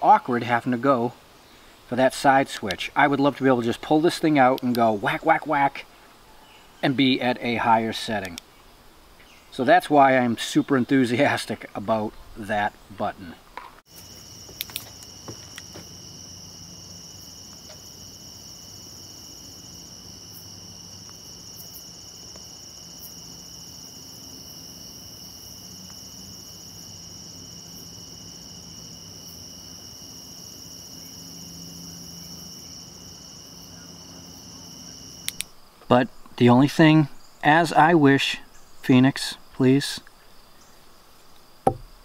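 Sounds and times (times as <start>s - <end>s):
night insects chirring: 0.0s - 42.0s.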